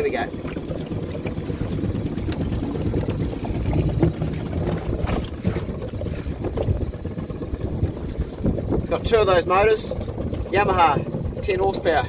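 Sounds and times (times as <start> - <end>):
outboard motor running slowly: 0.0 - 12.0
wind buffeting microphone: 0.0 - 12.0.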